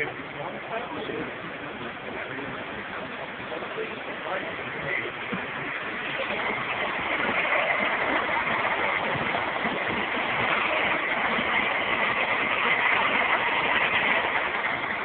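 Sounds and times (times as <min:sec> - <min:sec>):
model train wheels on track: 0:00.0 - 0:15.0
steam hiss: 0:00.1 - 0:15.0.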